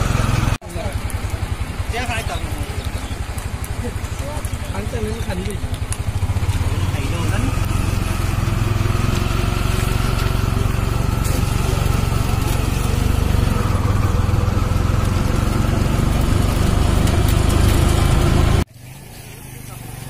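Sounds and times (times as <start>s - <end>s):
small engine humming: 0.0s - 20.0s.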